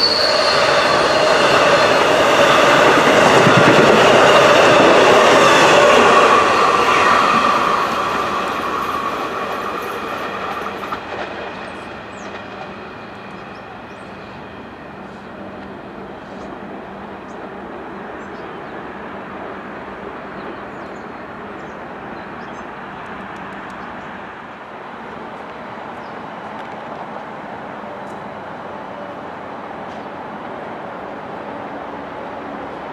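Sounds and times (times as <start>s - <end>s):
train running on rails: 0.0s - 32.9s.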